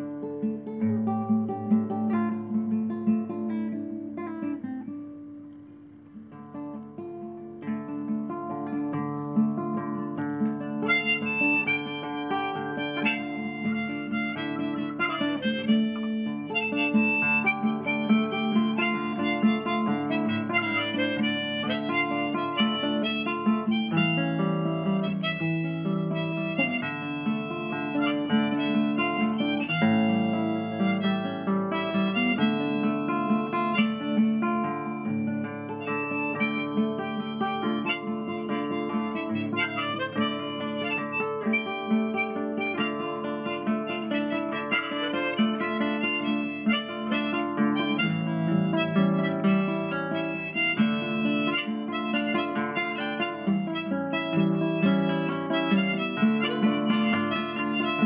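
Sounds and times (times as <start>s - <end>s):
acoustic guitar: 0.0s - 58.0s
harmonica melody: 10.6s - 58.0s.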